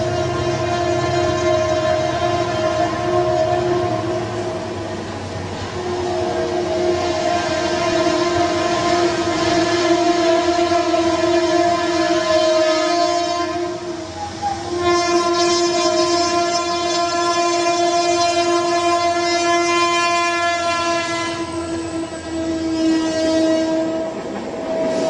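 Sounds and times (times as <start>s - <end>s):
train horn blast: 0.0s - 25.0s
train running noise: 0.0s - 25.0s.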